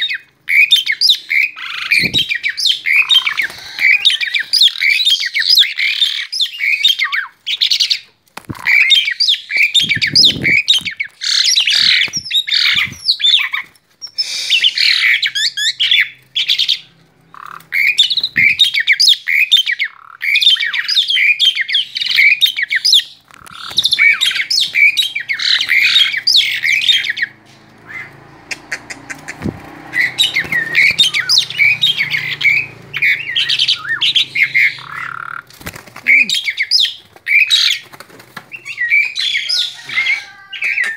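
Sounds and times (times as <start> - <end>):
starling singing harsh chatter: 0.0 - 8.0, 8.6 - 40.9.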